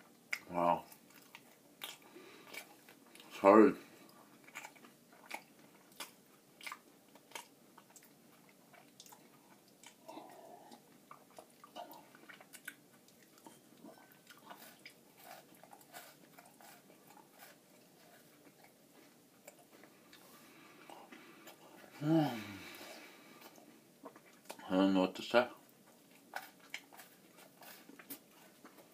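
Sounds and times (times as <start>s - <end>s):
crunching and chewing granola bar: 0.1s - 3.4s, 4.0s - 21.7s, 25.7s - 28.9s.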